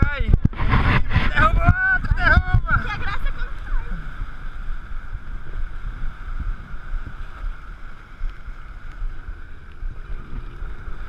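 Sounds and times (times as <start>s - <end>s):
wind rumbling on microphone: 0.0s - 11.0s
speedboat engine running: 0.2s - 11.0s.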